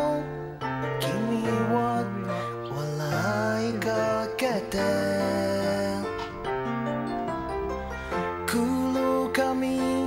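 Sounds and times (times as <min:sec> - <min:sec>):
melodic music with sliding pitches: 0:00.0 - 0:10.0.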